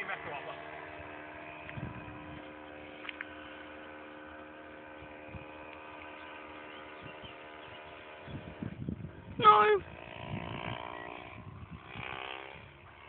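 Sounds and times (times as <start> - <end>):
model aeroplane engine drone: 0.0 - 13.0.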